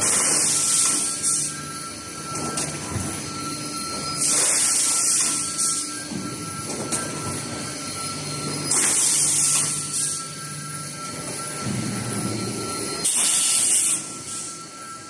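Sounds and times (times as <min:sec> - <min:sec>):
machine hum with whine: 0:00.0 - 0:15.0.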